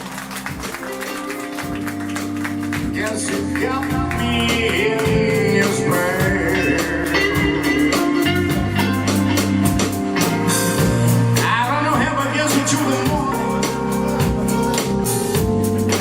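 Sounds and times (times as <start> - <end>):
bass and drums beat: 0.0 - 16.0
electric guitar: 0.0 - 16.0.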